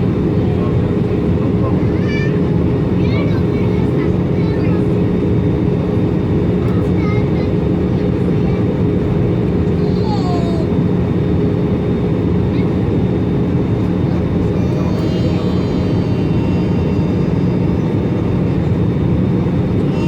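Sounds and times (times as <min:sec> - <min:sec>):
airplane cabin engine roar: 0:00.0 - 0:20.0
steady low hum: 0:00.0 - 0:20.0.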